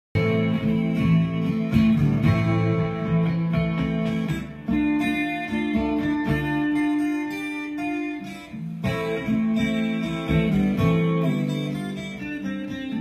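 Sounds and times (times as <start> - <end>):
electric guitar strumming chords: 0.2 - 13.0.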